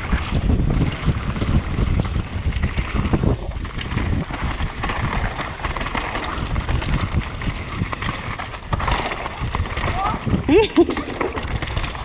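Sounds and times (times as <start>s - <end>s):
bike knocking and rattling: 0.0s - 12.0s
bike tyres rolling on dirt: 0.0s - 12.0s
wind noise on microphone: 0.0s - 12.0s.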